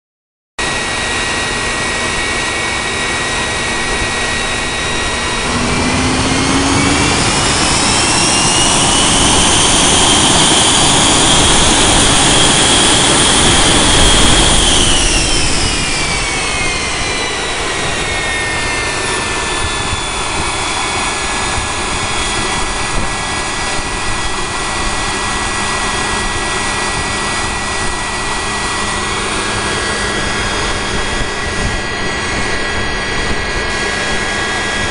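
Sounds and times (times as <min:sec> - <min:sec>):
turbojet engine whine and roar: 0:00.6 - 0:34.9.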